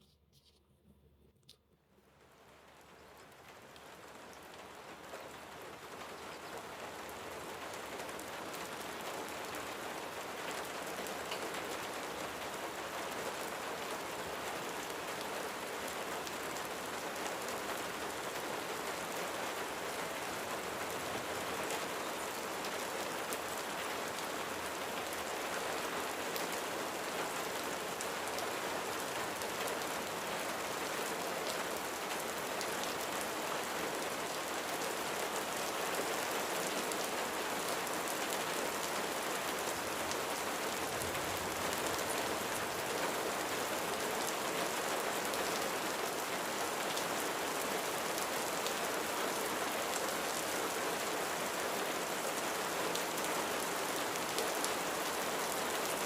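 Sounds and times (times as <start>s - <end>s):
steady rain falling: 2.1s - 56.0s.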